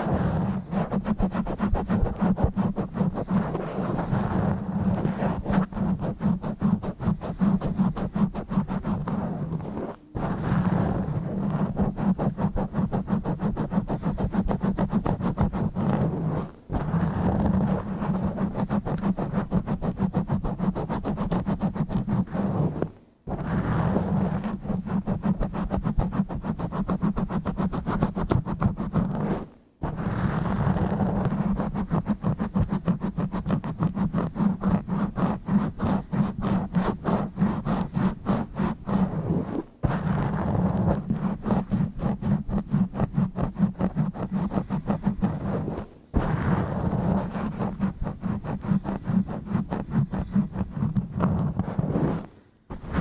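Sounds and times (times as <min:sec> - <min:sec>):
fingers scratching a microphone: 0:00.0 - 0:53.0.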